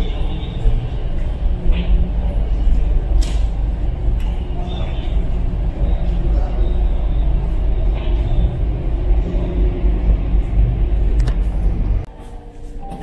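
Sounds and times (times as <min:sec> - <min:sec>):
ship engines rumbling: 0:00.0 - 0:12.5.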